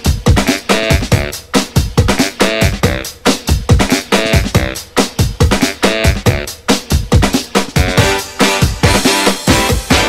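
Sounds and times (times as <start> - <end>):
music with fast drum beat: 0.0 - 10.0.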